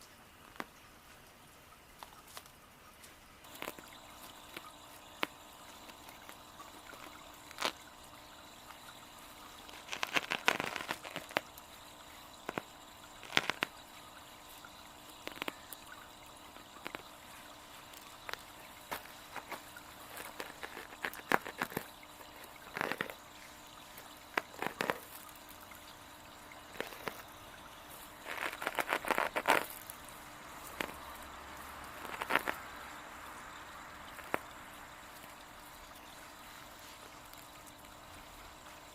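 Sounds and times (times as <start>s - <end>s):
small waterfall trickling: 0.0s - 38.9s
sharp crackling and snapping: 3.4s - 35.4s.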